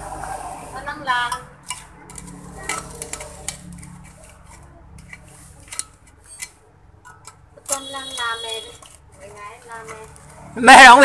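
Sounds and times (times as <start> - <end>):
metallic clicks and scrapes: 1.3 - 10.6.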